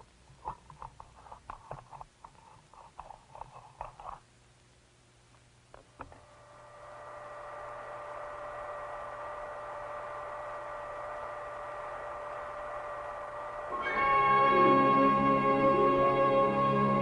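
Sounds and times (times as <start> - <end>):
steady hum of held tones: 0.0 - 17.0.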